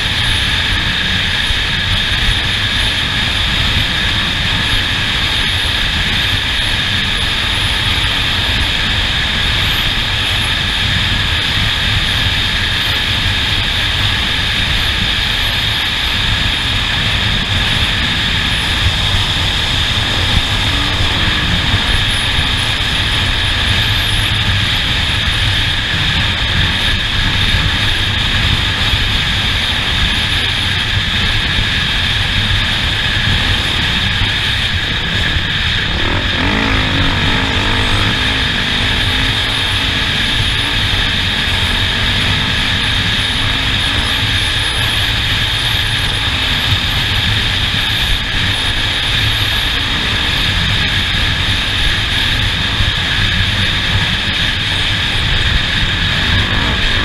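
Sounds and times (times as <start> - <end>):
engine drone: 0.0 - 57.0
high whine: 0.0 - 57.0
wind noise: 0.0 - 57.0.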